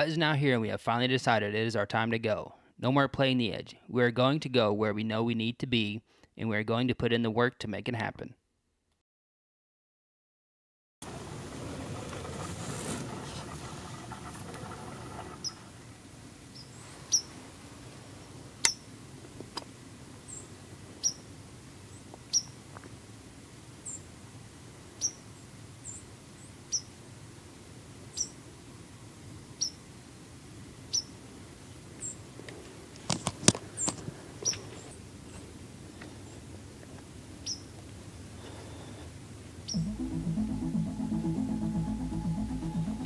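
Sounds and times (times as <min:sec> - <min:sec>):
faint outdoor hiss: 0:00.0 - 0:08.3, 0:11.0 - 0:43.0.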